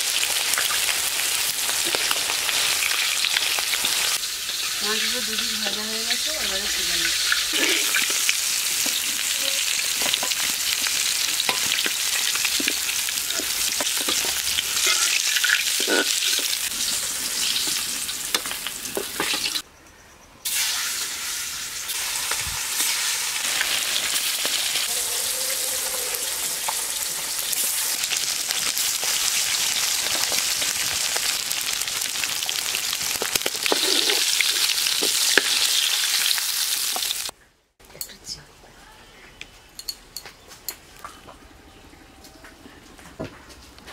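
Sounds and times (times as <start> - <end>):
fish sizzling in hot oil: 0.0 - 19.6, 20.5 - 37.3.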